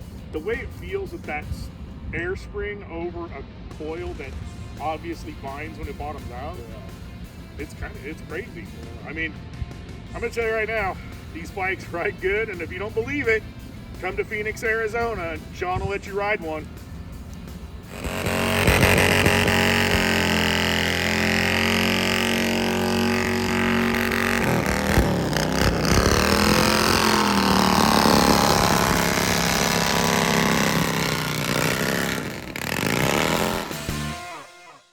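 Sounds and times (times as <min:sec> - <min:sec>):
motorcycle engine running: 0:04.4 - 0:34.4.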